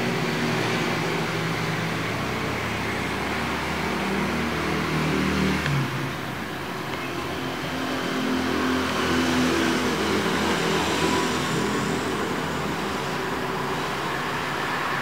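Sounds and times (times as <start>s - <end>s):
mechanical drone with low hum: 0.0s - 15.0s.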